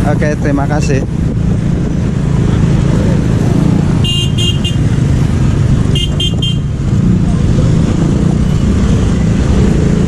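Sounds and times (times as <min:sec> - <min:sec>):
engines rumbling: 0:00.0 - 0:10.0.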